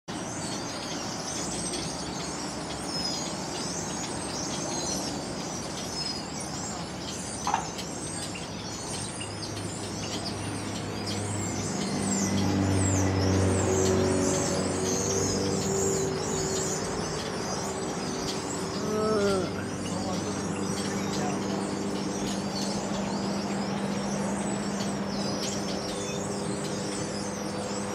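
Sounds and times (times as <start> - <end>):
small birds chirping: 0.1 - 27.9
low engine hum: 0.2 - 27.9.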